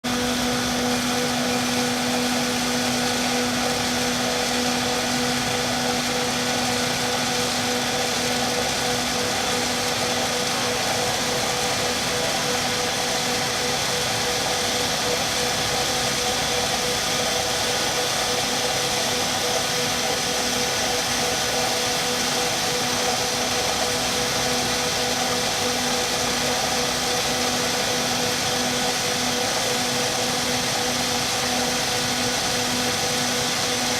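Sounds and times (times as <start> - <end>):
ice machine droning: 0.1 - 33.9.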